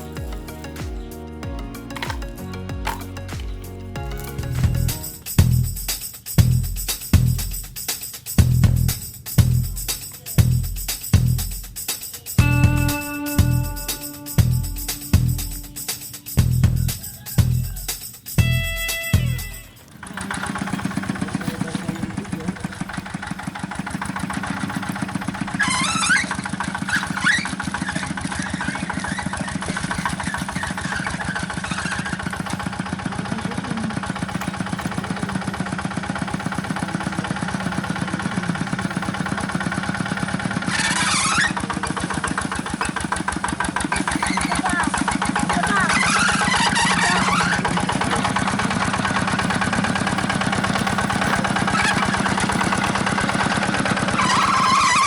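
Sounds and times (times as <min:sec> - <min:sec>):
high squeaks: 0:00.0 - 0:55.0
small engine chugging: 0:00.0 - 0:55.0.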